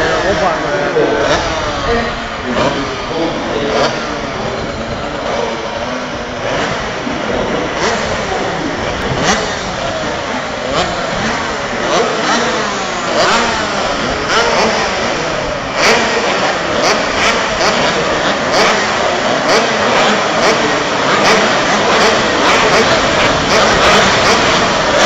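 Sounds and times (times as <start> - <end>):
racing motorcycles passing: 0.0 - 25.0.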